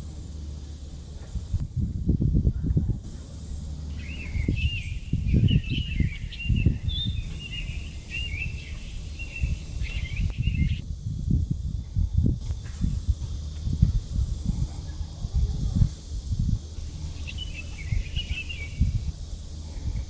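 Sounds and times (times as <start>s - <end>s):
low irregular rumbling: 0.0s - 20.0s
songbirds chirping and twittering: 2.3s - 20.0s.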